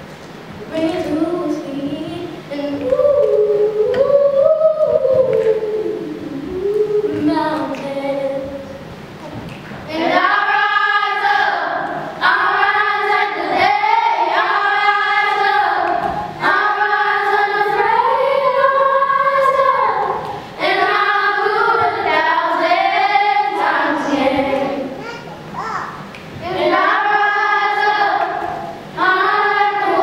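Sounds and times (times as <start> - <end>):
girl singing slow song: 0.5 - 30.0.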